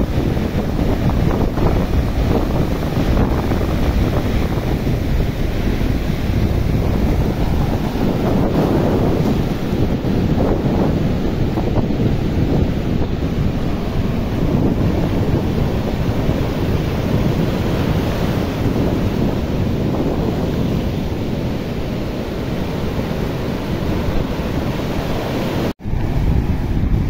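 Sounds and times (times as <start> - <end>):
sea surf breaking on shore: 0.0 - 27.0
wind buffeting microphone: 0.0 - 27.0.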